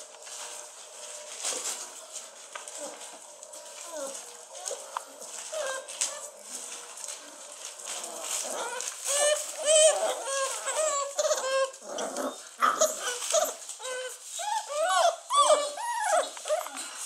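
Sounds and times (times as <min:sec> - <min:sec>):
puppies whining and crying: 0:02.7 - 0:17.0.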